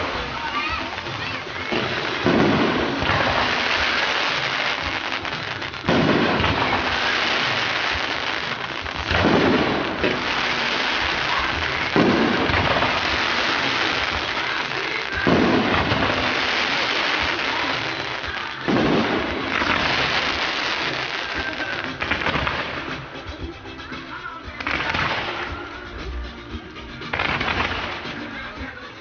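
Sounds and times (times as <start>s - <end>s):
firework crackling hiss: 0.0s - 29.0s
loud firework bursts: 0.0s - 29.0s.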